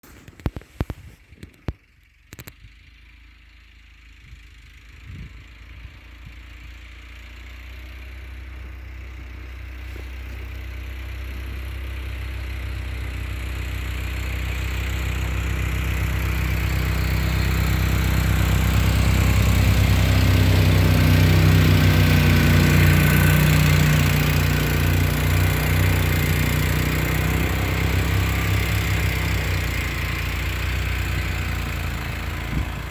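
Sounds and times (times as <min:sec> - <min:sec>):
snowmobile engine humming: 0:04.2 - 0:32.9.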